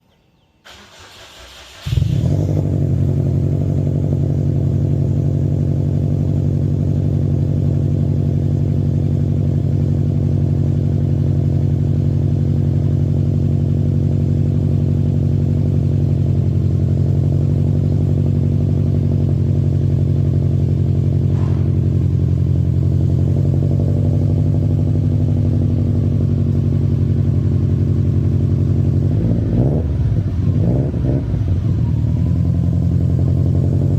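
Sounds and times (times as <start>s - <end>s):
car engine idling: 0.7s - 33.9s.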